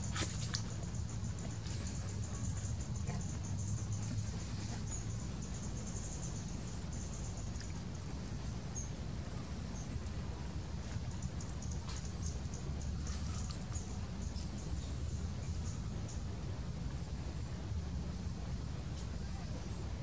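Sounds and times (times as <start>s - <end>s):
insects chirping: 0.0s - 19.8s
steady low rumble: 0.0s - 20.0s.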